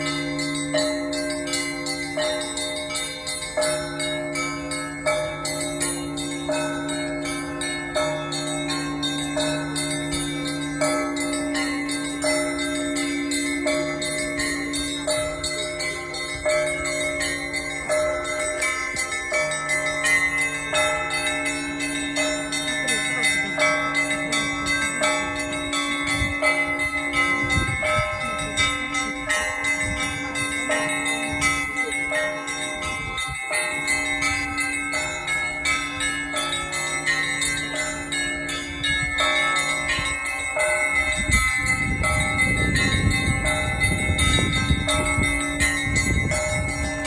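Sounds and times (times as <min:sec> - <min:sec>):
large bell humming: 0:00.0 - 0:47.0
small church bells ringing: 0:00.0 - 0:47.0.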